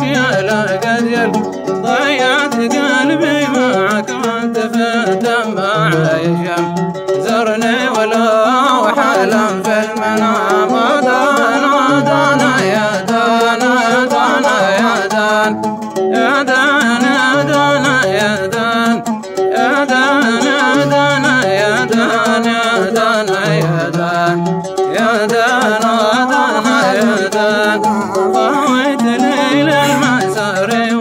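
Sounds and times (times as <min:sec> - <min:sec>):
oud and reed pipe folk music: 0:00.0 - 0:31.0.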